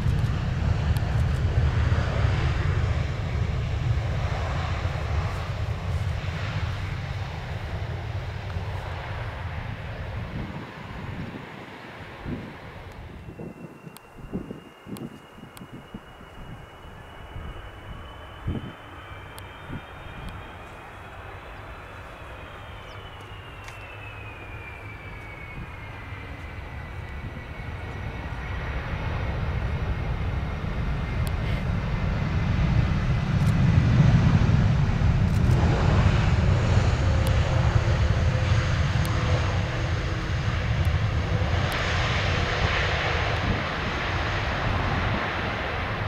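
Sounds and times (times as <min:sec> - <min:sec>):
jet airliner flying past low: 0:00.0 - 0:46.0.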